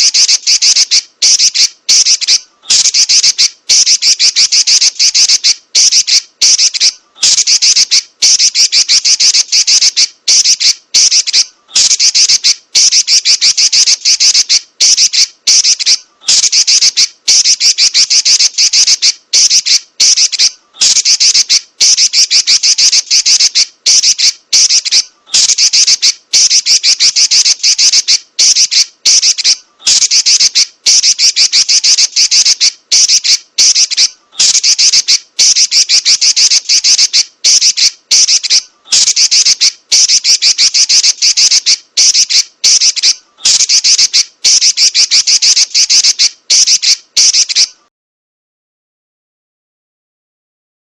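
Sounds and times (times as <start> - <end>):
bird chattering trill: 0.0 - 47.8.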